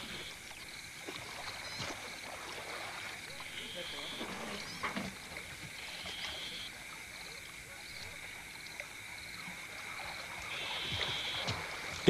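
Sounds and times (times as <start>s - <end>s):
night chorus of calling animals: 0.0s - 12.0s.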